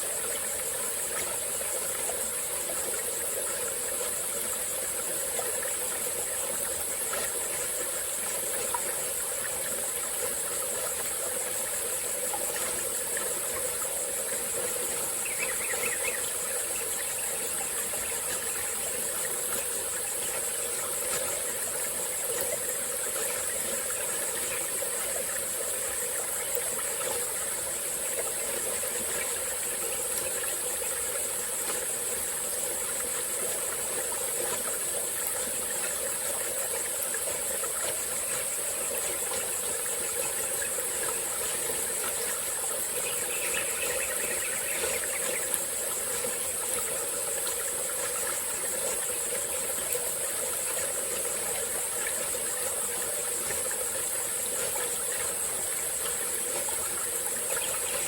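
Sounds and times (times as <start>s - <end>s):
high-pitched insect chorus: 0.0s - 58.0s
stream trickling over rocks: 0.0s - 58.0s.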